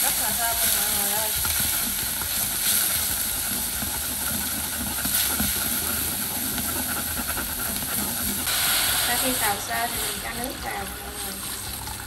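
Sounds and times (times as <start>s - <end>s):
chopsticks stirring: 0.0s - 12.0s
shrimp sizzling in a pot: 0.0s - 12.0s.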